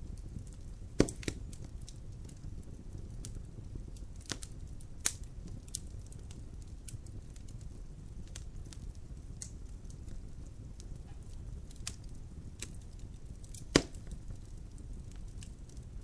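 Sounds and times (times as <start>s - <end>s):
fire crackling and popping: 0.0s - 16.0s
wood fire rumbling: 0.0s - 16.0s.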